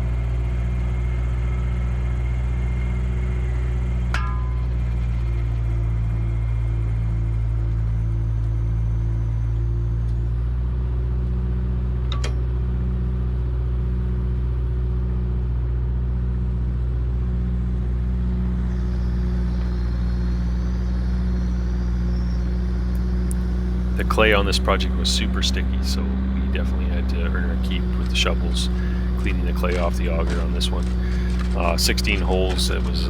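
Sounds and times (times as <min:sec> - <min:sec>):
excavator engine droning: 0:00.0 - 0:33.0.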